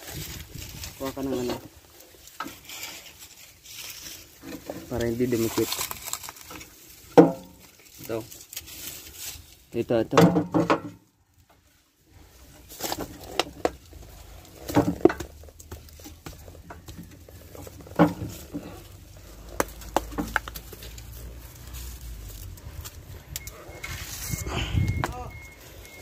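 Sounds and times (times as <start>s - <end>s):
rustling of dry grass: 0.0s - 10.2s, 10.9s - 26.0s.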